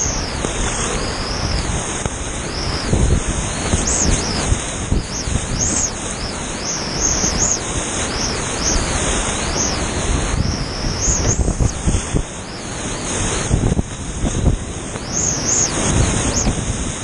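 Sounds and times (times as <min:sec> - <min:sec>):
whitewater rushing and splashing: 0:00.0 - 0:17.0.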